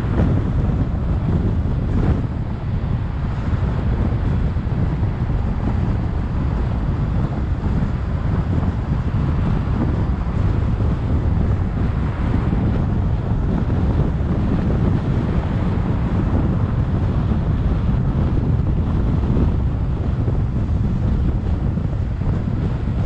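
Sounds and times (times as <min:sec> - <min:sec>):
car road noise: 0:00.0 - 0:23.0
wind buffeting microphone: 0:00.0 - 0:23.0.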